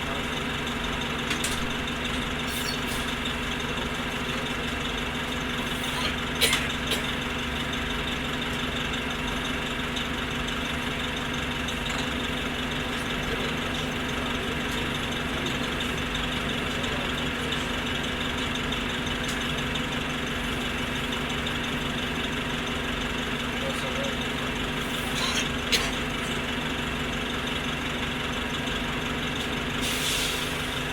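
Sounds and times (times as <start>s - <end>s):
bus engine idling: 0.0s - 30.9s.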